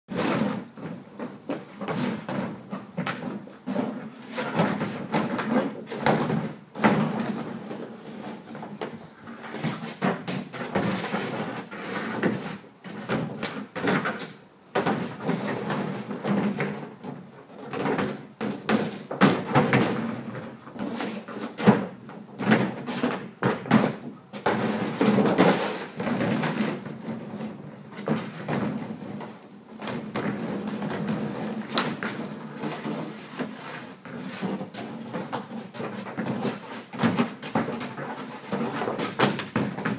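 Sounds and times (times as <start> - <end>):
plastic pool scraping on concrete: 0.1 - 39.9.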